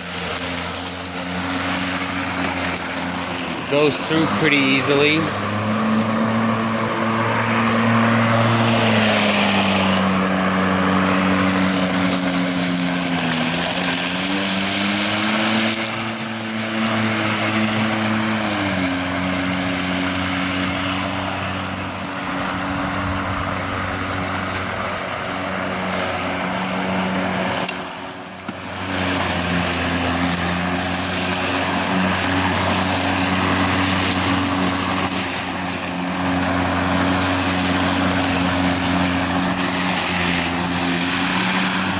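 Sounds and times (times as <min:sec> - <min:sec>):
electric lawn mower cutting grass: 0:00.0 - 0:41.9.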